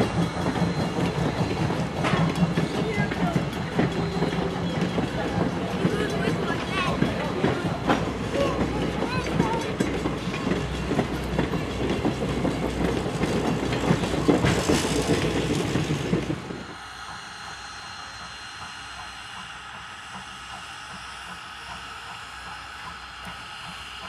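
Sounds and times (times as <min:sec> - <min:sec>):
distant steam train running: 0:00.0 - 0:24.0
train wheels clicking on rail joints: 0:00.0 - 0:24.0.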